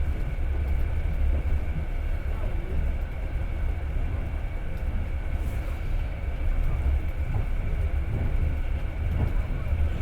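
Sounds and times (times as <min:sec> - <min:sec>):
train rumbling inside carriage: 0:00.0 - 0:10.0.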